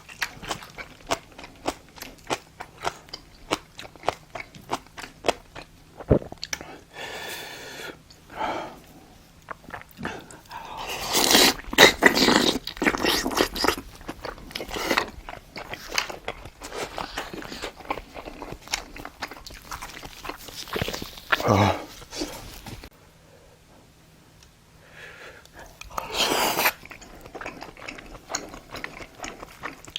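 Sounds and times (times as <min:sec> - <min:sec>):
chewing and wet mouth smacks: 0:00.0 - 0:06.7, 0:09.4 - 0:22.9, 0:25.8 - 0:29.9.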